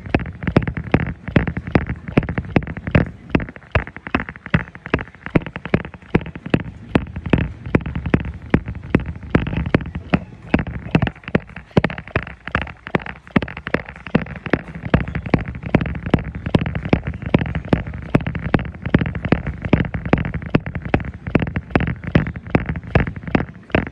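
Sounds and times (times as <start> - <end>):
footfalls on treadmill belt: 0.0 - 23.9.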